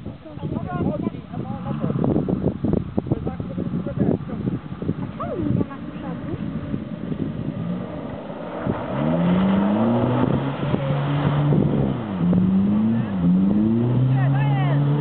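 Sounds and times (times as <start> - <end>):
off-road vehicle engine revving: 0.6 - 15.0.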